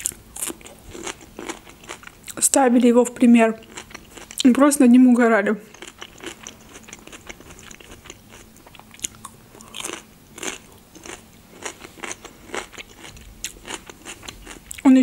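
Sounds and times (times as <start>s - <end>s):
chewing crunchy food: 0.0s - 2.4s, 3.6s - 4.6s, 5.6s - 14.9s.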